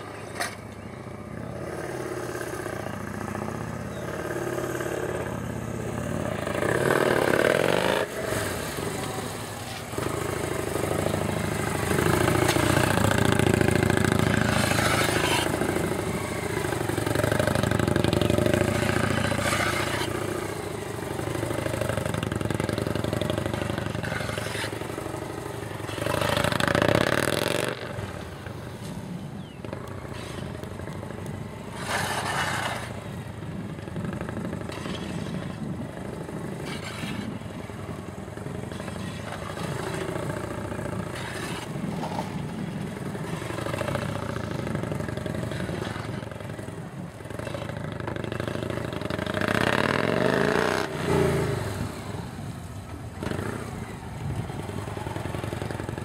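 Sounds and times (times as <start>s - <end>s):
motorcycle engine at low revs: 0.0s - 56.0s.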